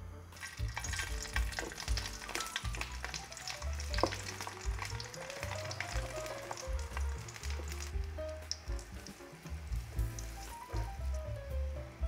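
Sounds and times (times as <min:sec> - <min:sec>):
background music with bass: 0:00.0 - 0:12.0
food sizzling in hot fat: 0:00.0 - 0:12.0.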